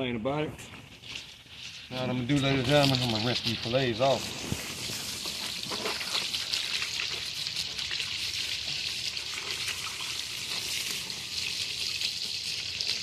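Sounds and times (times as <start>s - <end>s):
water running and splashing on fish: 0.9s - 13.0s.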